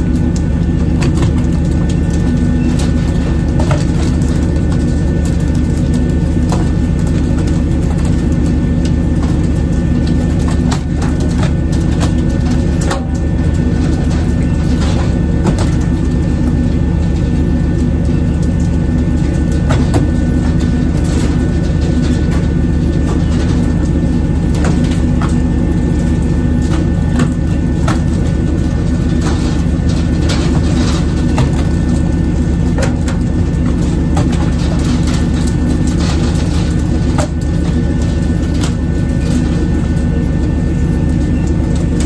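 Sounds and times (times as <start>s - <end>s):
boat engine drone: 0.0s - 42.0s.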